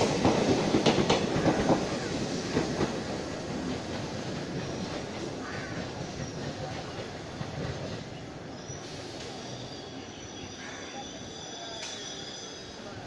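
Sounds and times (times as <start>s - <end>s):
train wheels rumbling over rails: 0.0s - 13.0s.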